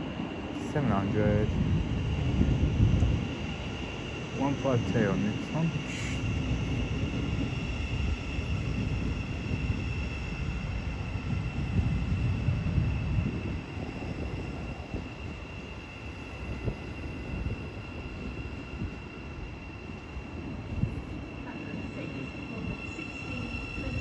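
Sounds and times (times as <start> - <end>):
electric train rumble: 0.0 - 24.0.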